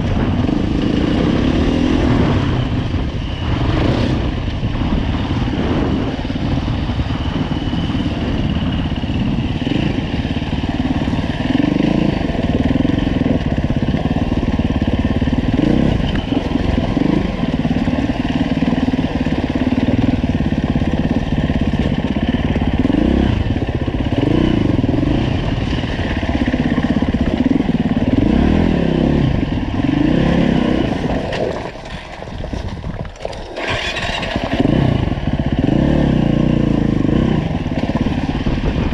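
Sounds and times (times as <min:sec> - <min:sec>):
dirt bike engine revving: 0:00.0 - 0:31.7, 0:33.4 - 0:38.9.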